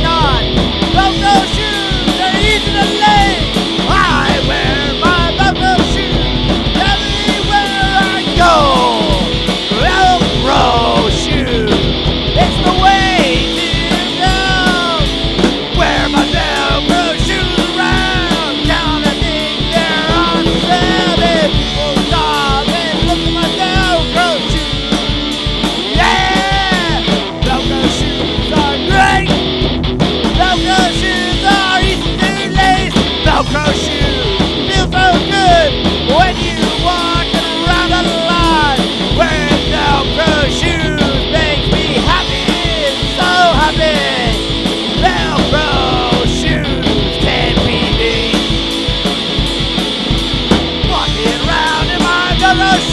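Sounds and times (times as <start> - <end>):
punk rock song: 0.0 - 52.9.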